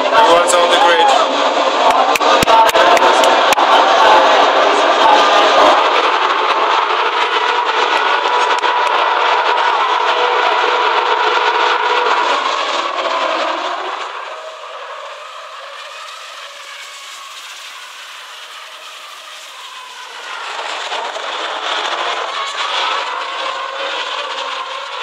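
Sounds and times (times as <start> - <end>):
race car engines screaming: 0.0 - 25.0.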